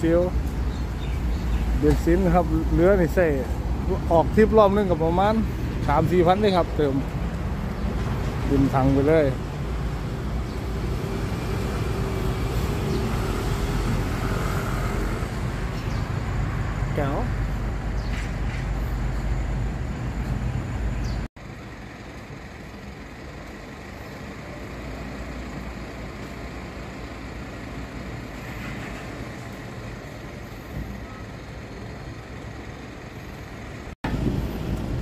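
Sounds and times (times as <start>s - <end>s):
low rumble of vehicles: 0.0s - 35.0s.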